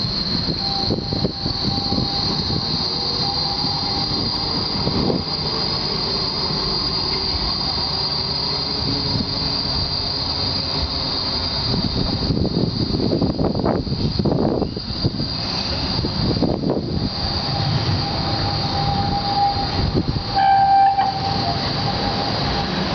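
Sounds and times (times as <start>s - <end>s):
tram rolling rumble: 0.0s - 22.9s
tram wheel squeal: 0.0s - 22.9s.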